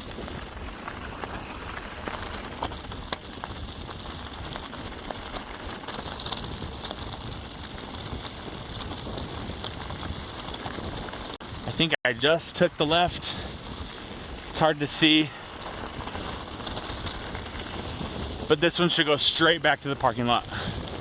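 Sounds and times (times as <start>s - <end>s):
stones and bike rattling: 0.0s - 21.0s
tyres crunching on gravel: 0.0s - 21.0s.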